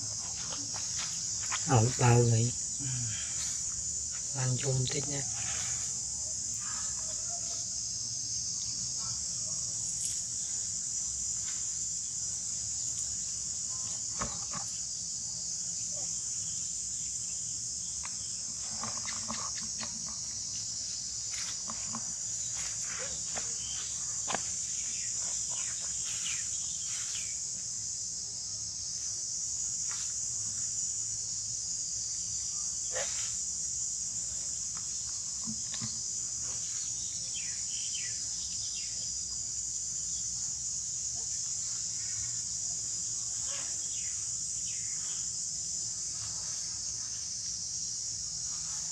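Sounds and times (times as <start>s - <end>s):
insect chorus droning: 0.0s - 48.9s.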